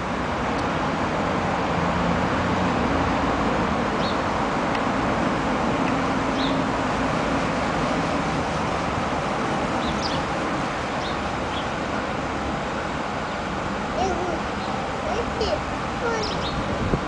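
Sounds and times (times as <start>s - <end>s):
city traffic hum: 0.0s - 17.0s.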